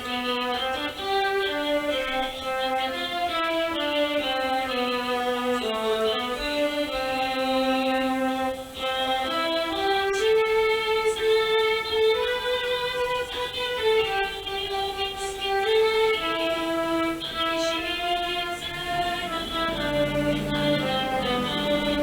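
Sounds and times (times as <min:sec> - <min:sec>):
electronic organ playing pop tune: 0:00.0 - 0:22.0.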